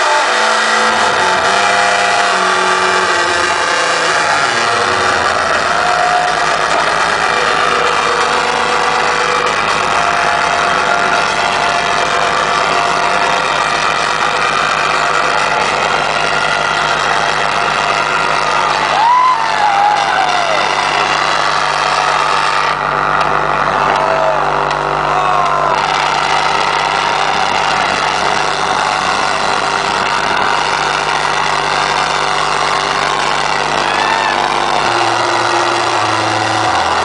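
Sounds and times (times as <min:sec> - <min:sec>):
distorted electronic dance music: 0:00.0 - 0:37.0
steady low hum: 0:00.0 - 0:37.0.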